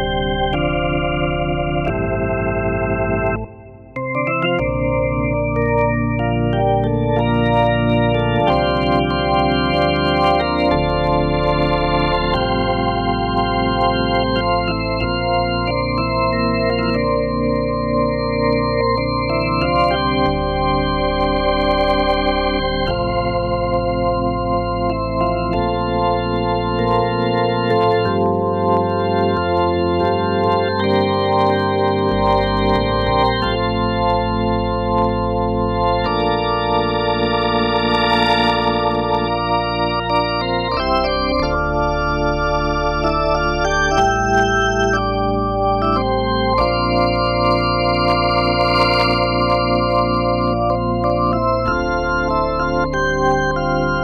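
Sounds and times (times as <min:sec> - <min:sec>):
keyboard organ chords: 0:00.0 - 0:54.0.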